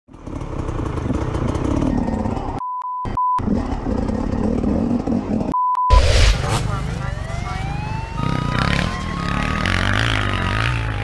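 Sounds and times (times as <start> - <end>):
dirt bike and quad engines: 0.1 - 11.0.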